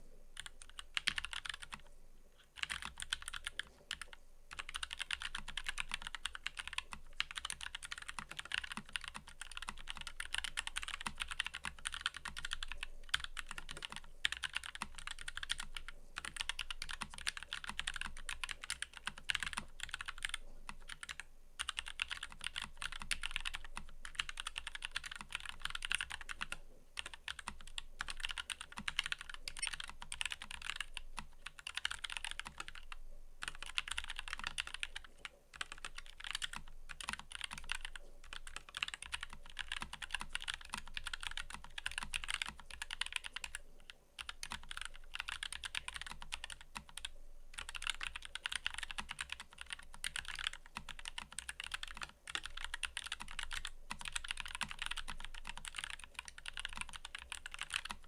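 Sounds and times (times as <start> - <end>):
typing on mechanical keyboard: 0.4 - 43.6, 44.2 - 58.0.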